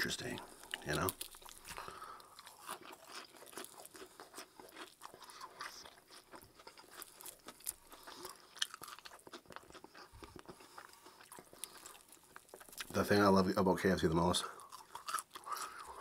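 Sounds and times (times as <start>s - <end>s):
crunchy fried chicken chewing: 0.0s - 13.0s, 14.4s - 16.0s.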